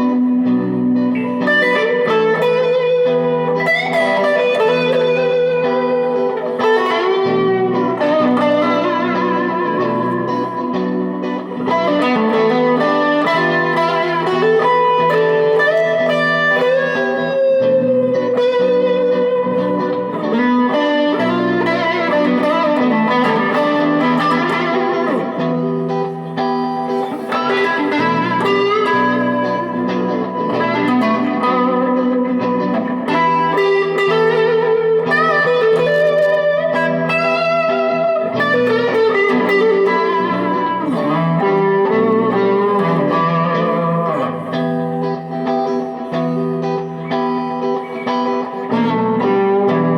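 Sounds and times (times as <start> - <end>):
electric guitar notes and chords: 0.0 - 49.9.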